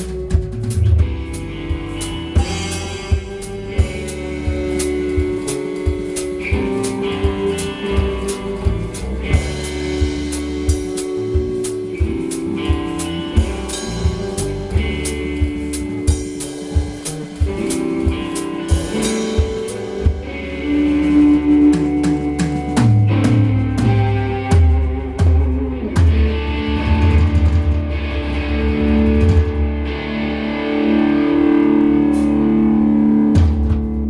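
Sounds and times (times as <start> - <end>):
drum kit beat: 0.0 - 34.0
guitar chords: 0.0 - 34.0
low bass notes: 0.0 - 34.0.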